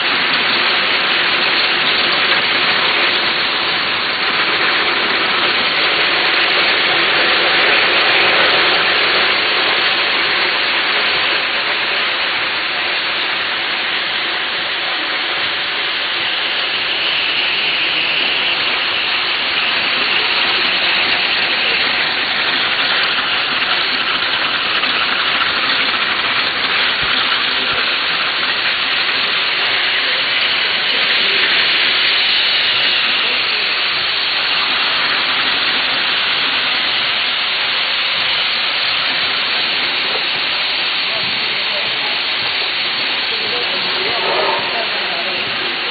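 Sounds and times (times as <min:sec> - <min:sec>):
hissing machine noise: 0:00.0 - 0:45.9.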